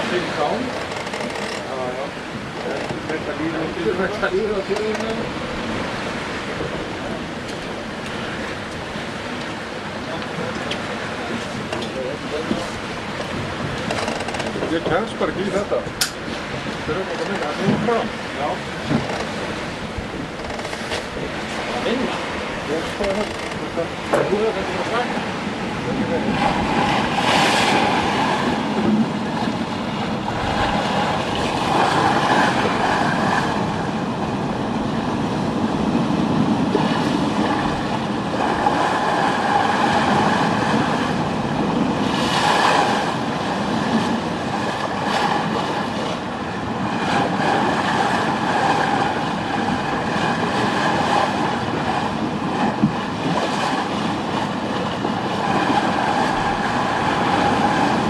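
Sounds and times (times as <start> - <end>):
sea water rushing along hull: 0.0 - 58.0.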